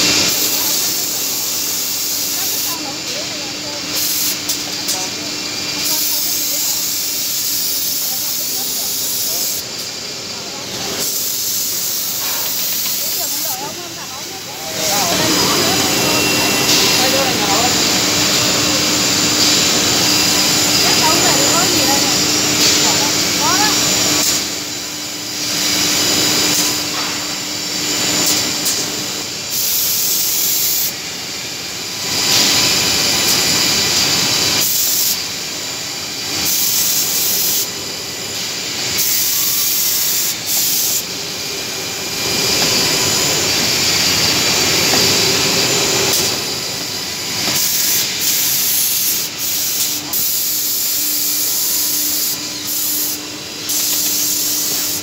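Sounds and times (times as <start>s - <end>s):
drilling machine whirring: 0.0s - 55.0s.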